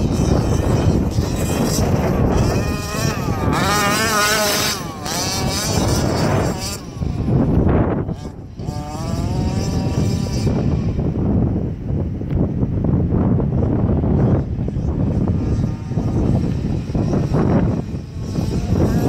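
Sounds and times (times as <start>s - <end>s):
two-stroke engine revving: 0.0s - 11.3s, 14.0s - 19.0s.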